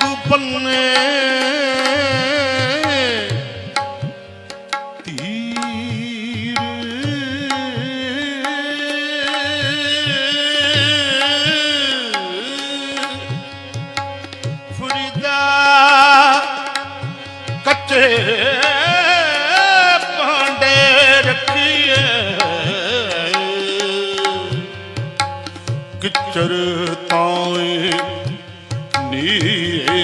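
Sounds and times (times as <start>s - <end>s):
harmonium: 0.0s - 30.0s
man singing melismatic notes: 0.0s - 30.0s
tabla rhythm: 0.0s - 30.0s.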